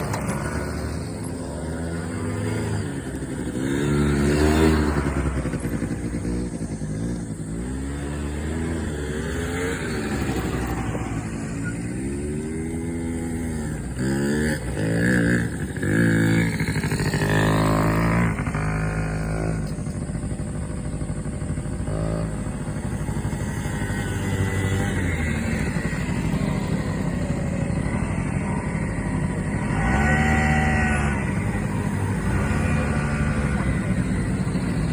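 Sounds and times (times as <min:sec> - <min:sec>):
buggy engine revving: 0:00.0 - 0:34.9.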